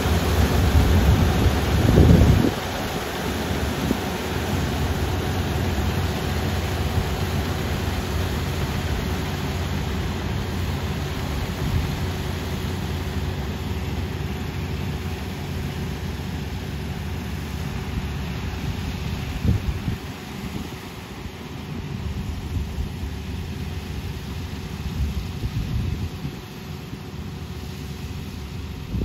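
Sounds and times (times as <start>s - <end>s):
combine harvester engine drone: 0.0s - 29.0s.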